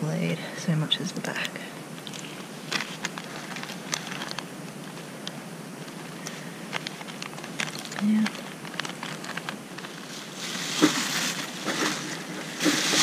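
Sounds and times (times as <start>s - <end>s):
steady hiss: 0.0s - 13.0s
soft clicks and crackles: 1.2s - 13.0s.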